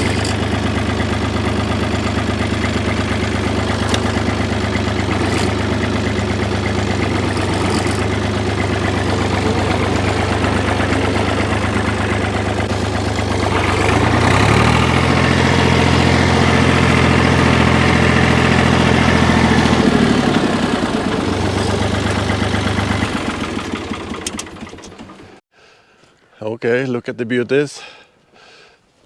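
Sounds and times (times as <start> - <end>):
engine idling: 0.0 - 25.4.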